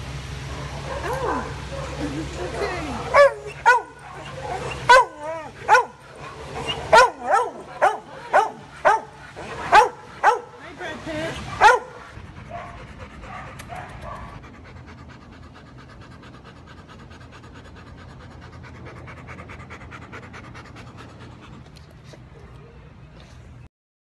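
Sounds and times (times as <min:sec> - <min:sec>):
steady low rumble: 0:00.0 - 0:23.0
dog panting: 0:01.4 - 0:22.8.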